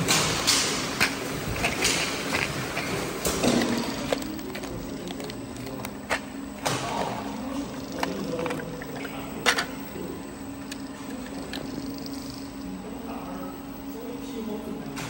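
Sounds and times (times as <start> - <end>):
machine line humming: 0.0 - 15.0
plastic jars clicking and knocking: 0.1 - 12.5.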